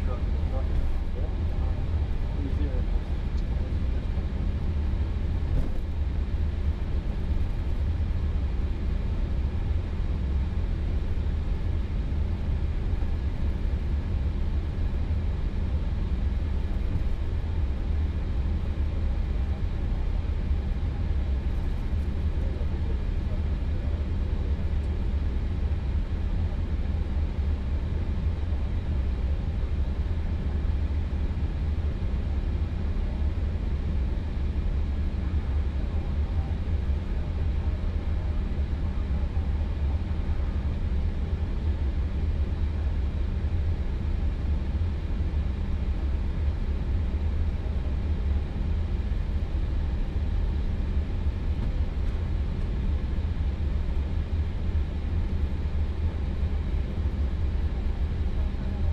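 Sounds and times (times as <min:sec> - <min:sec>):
aircraft engines idling: 0:00.0 - 0:58.9.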